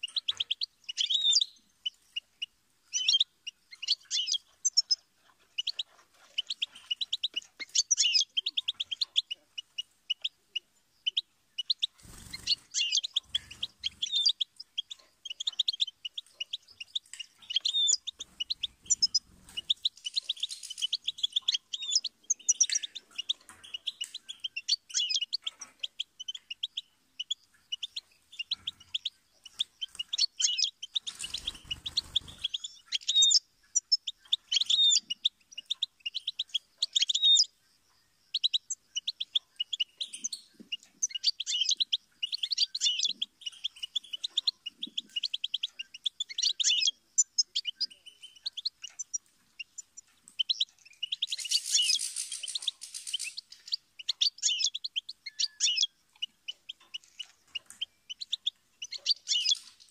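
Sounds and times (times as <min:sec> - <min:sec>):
goldfinch twittering: 0:00.0 - 0:02.2, 0:02.9 - 0:37.5, 0:38.3 - 0:59.9.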